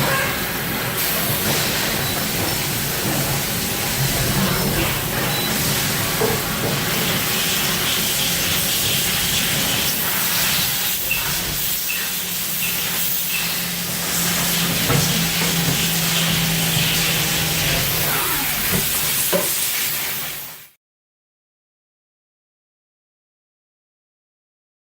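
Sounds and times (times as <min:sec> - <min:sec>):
milling machine hissing: 0:00.6 - 0:20.7.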